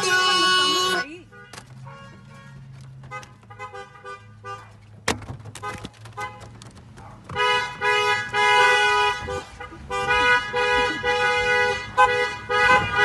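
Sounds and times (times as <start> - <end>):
car horns honking: 0.0 - 6.7, 7.3 - 13.0.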